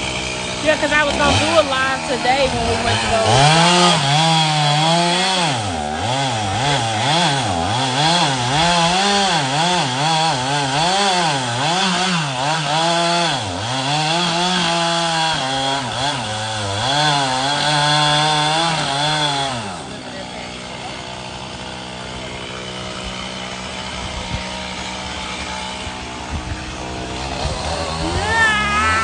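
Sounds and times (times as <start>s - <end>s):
chainsaw cutting tree: 0.0s - 29.0s.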